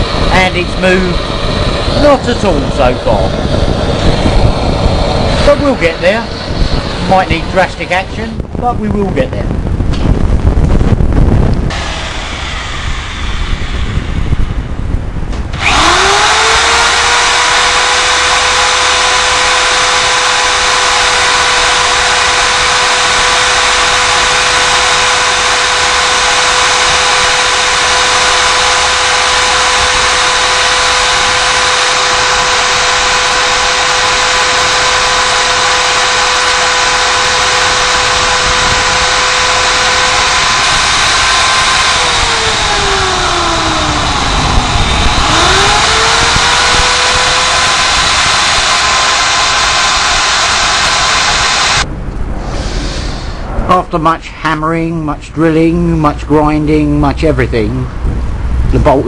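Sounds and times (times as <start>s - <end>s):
power tool whining and grinding: 0.0s - 8.4s, 11.5s - 14.6s, 15.3s - 51.9s.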